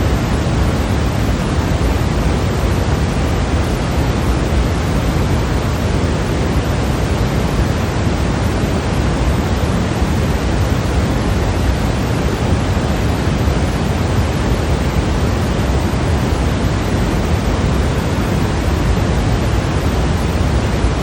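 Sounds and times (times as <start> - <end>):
white noise hiss: 0.0 - 21.0.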